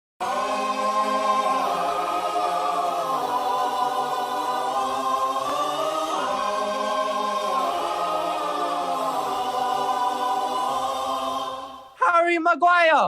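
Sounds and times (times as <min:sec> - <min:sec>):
choir singing held chords: 0:00.2 - 0:12.0.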